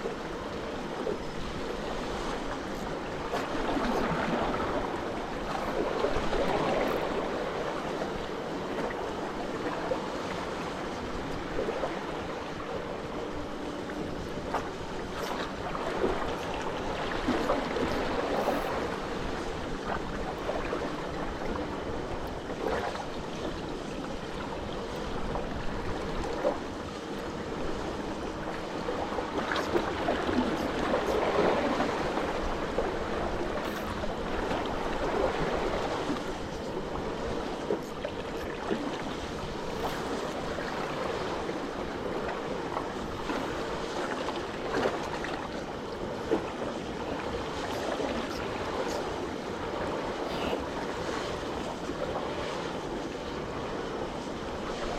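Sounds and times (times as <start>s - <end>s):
sea water washing and splashing: 0.0s - 54.9s.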